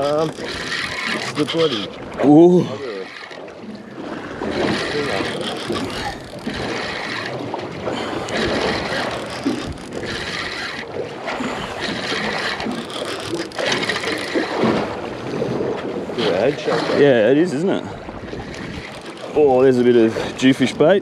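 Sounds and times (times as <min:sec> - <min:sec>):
water against a boat: 0:00.0 - 0:21.0.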